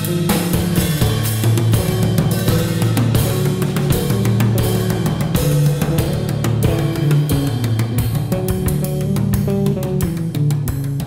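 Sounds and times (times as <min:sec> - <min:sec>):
drum kit: 0:00.0 - 0:11.0
electric bass line: 0:00.0 - 0:11.0.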